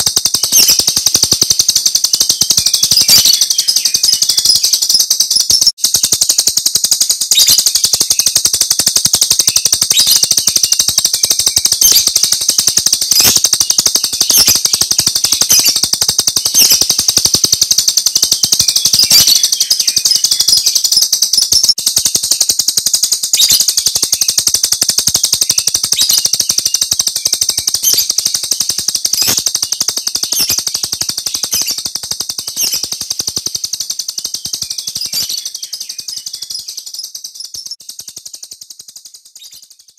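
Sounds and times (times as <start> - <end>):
starling rattling call: 0.0 - 39.9.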